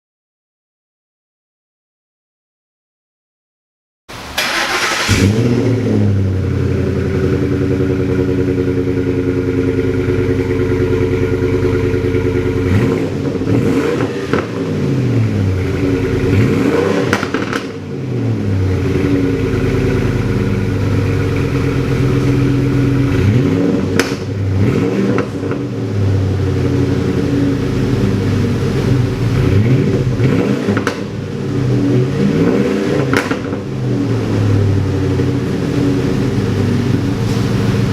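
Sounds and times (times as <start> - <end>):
truck exhaust idling and revving: 4.1 - 37.9.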